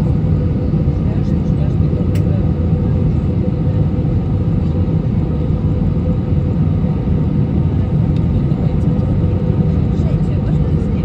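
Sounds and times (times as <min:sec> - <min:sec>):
airliner engines rumbling: 0:00.0 - 0:11.0.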